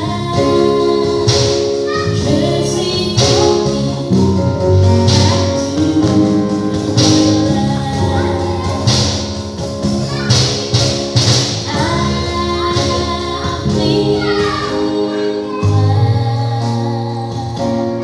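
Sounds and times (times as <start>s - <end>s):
woman singing into microphone: 0.0s - 9.1s, 11.6s - 18.0s
backing track with bass: 0.0s - 18.0s.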